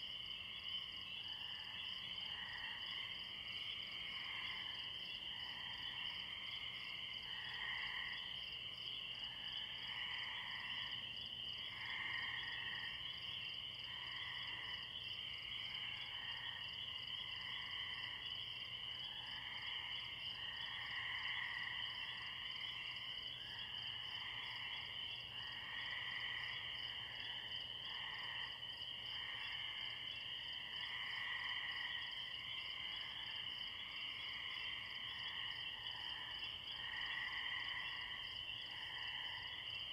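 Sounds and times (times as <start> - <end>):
frogs calling: 0.0 - 39.9
tree crickets trilling: 0.0 - 39.9.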